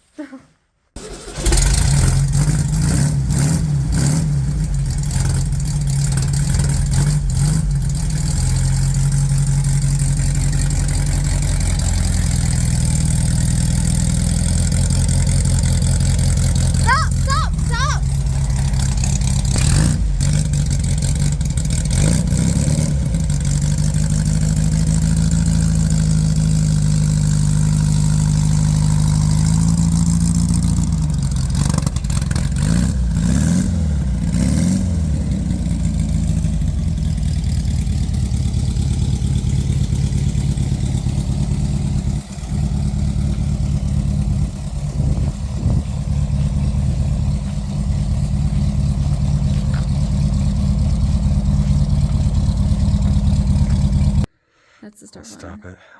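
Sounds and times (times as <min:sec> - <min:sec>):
engine running: 0:01.0 - 0:54.3.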